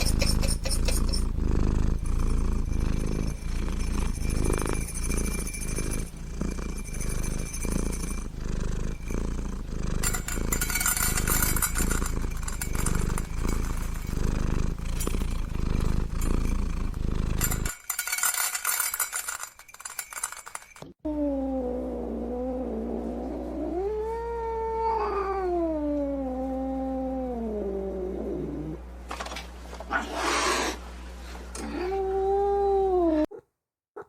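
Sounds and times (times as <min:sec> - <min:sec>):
cat purring: 0:00.0 - 0:28.8.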